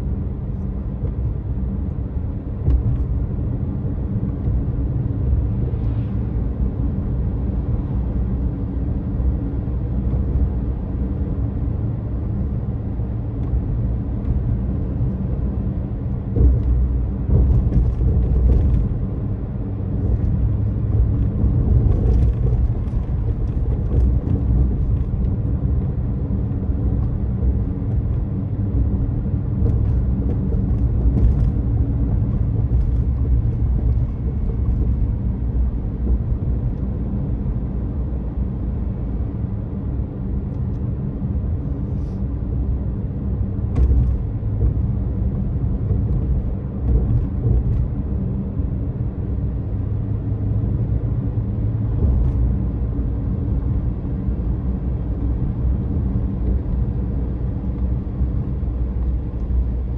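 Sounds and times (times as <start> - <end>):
car interior rumble: 0.0 - 59.9.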